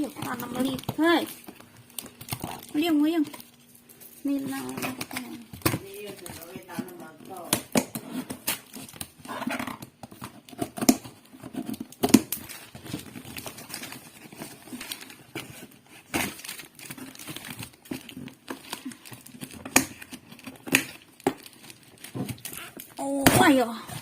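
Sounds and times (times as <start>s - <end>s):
plastic packaging crinkling and tearing: 0.0s - 24.0s.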